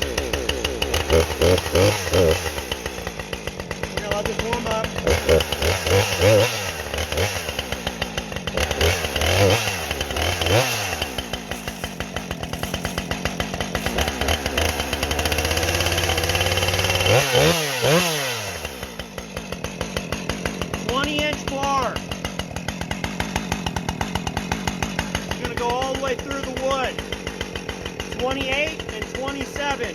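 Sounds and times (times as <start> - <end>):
chainsaw idling and revving: 0.0 - 29.9.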